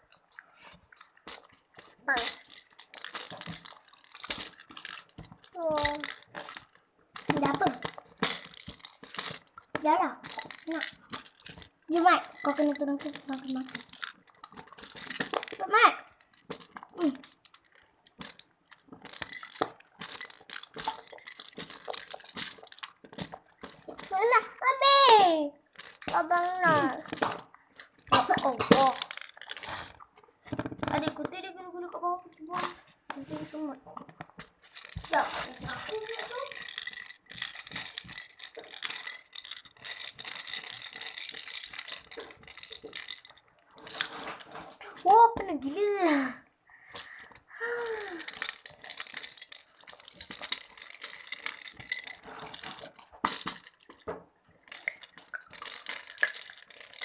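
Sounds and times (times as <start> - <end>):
candy packaging crinkling: 0.0 - 31.8, 34.1 - 45.2, 47.0 - 57.0.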